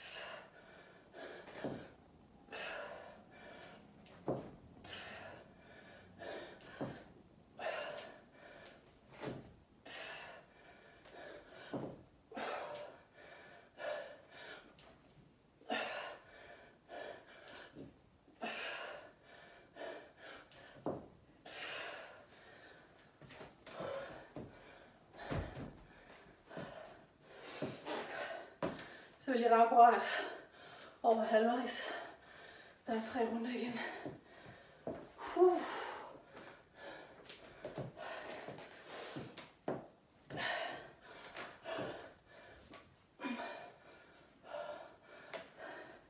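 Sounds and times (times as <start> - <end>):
woman gasping breaths: 0.0 - 14.9, 15.6 - 29.2, 29.9 - 31.1, 31.7 - 32.9, 33.6 - 46.0.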